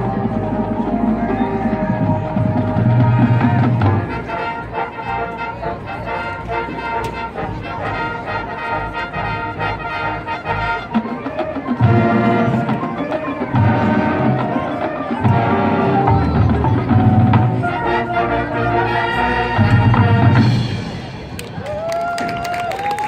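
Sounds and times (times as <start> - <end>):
marching band playing: 0.0 - 22.9.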